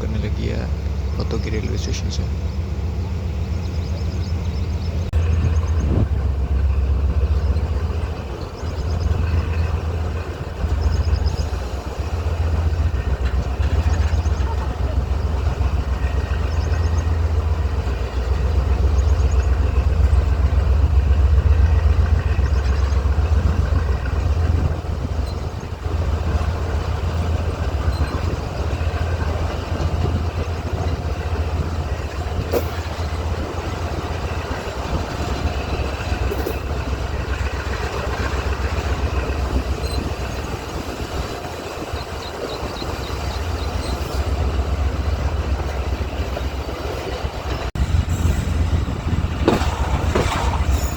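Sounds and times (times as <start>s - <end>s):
diesel locomotive engine rumbling: 0.0s - 50.9s
train rolling: 0.0s - 50.9s.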